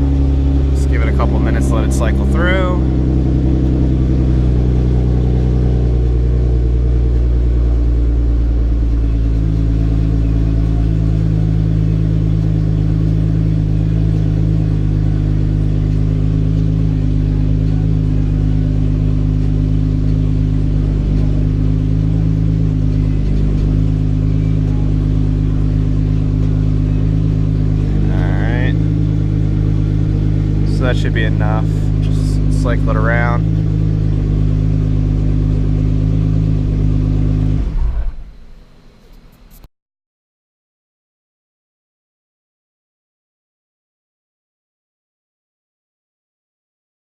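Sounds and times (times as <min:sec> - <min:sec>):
car engine idling: 0:00.0 - 0:39.7.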